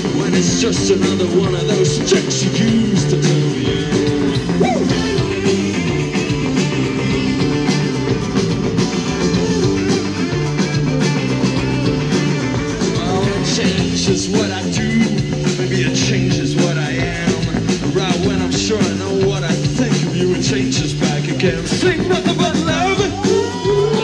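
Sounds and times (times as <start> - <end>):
person singing: 0.0 - 8.2, 9.0 - 24.0
drums: 0.0 - 24.0
electric guitar: 0.0 - 24.0.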